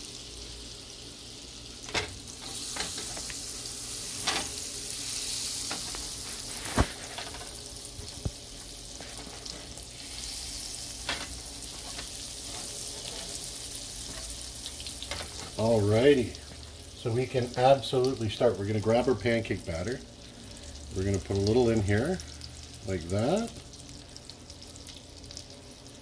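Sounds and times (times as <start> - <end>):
butter sizzling in a frying pan: 0.0 - 26.0.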